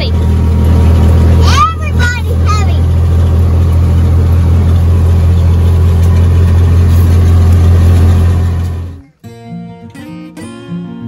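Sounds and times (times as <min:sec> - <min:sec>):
vehicle engine droning: 0:00.0 - 0:09.2.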